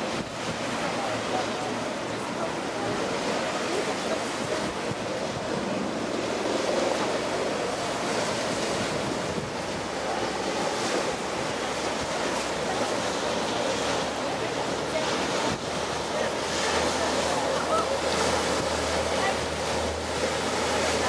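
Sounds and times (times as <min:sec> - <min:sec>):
waves on sea: 0:00.0 - 0:21.0
wind buffeting microphone: 0:00.0 - 0:21.0.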